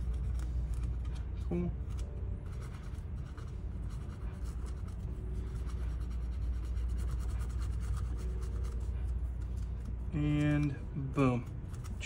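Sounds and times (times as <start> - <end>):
steady low hum: 0.0 - 12.0
swab scrubbing scratchy rubbing: 0.0 - 12.0.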